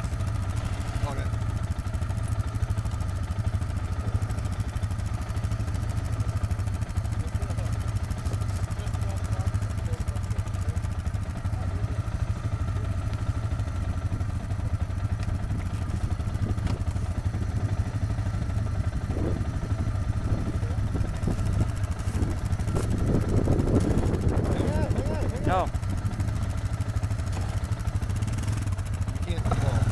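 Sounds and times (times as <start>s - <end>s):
atv engine running: 0.0s - 29.9s.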